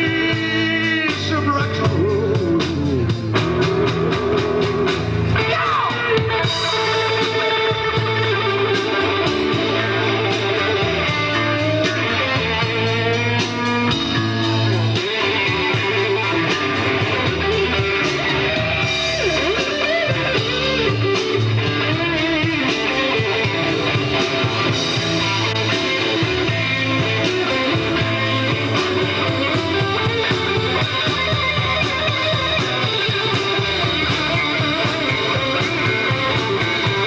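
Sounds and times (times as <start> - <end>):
bass and drums: 0.0 - 37.0
electric guitar solo: 0.0 - 37.0.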